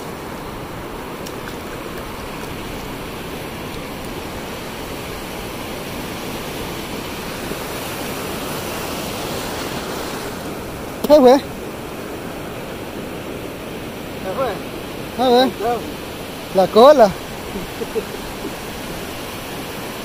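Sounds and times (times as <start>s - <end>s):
sea surf rushing: 0.0s - 20.0s.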